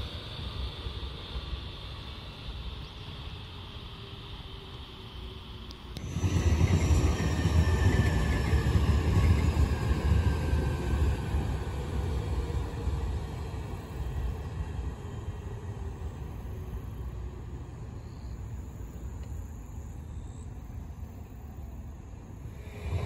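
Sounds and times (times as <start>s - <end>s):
train wheels rumbling on rail: 0.0s - 20.0s, 22.2s - 23.0s
faint high whine: 0.0s - 23.0s.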